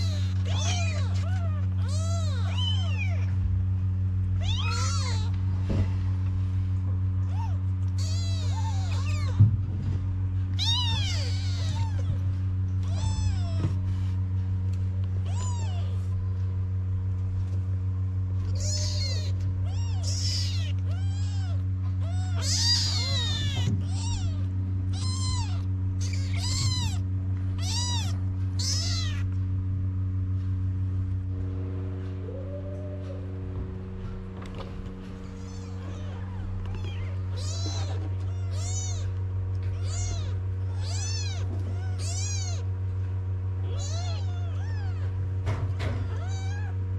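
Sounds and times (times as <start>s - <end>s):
kittens mewing: 0.0s - 3.5s, 4.3s - 6.1s, 7.2s - 9.6s, 10.4s - 14.2s, 15.1s - 16.3s, 18.4s - 29.4s, 32.2s - 42.8s, 43.6s - 46.9s
steady low hum: 0.0s - 46.9s.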